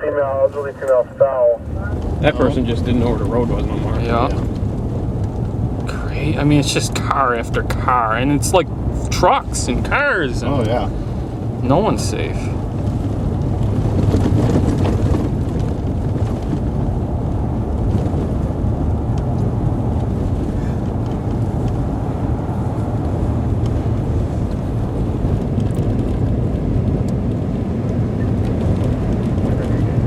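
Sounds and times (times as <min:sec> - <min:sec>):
engine and road noise rumble: 0:00.0 - 0:30.0.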